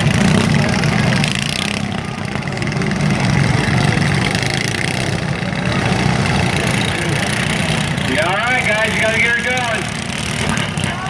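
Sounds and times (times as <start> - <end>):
lawn mower engines rumbling: 0.0 - 11.0.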